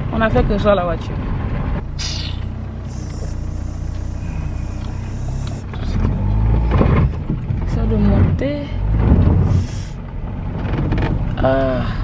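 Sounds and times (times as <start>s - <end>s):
car engine and road noise rumble: 0.0s - 12.0s.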